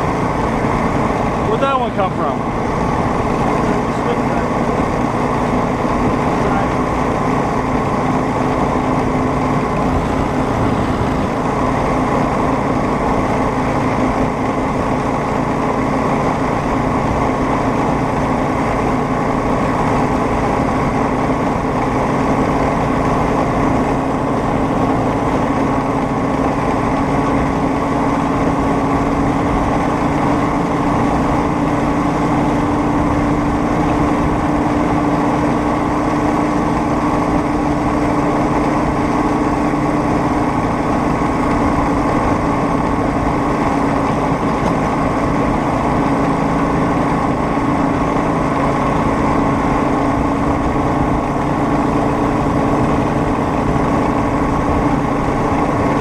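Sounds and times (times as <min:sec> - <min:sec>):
small engine running steadily: 0:00.0 - 0:56.0.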